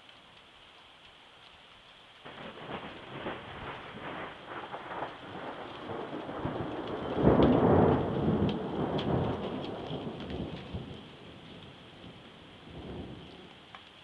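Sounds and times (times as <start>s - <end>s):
steady rain: 0.0s - 14.0s
thunder clap rumbling: 2.3s - 13.6s.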